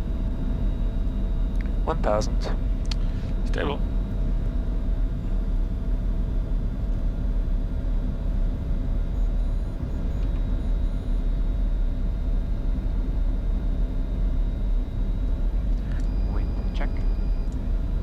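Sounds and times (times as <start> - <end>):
faint steady tones: 0.0 - 18.0
jet cockpit rumble: 0.0 - 18.0.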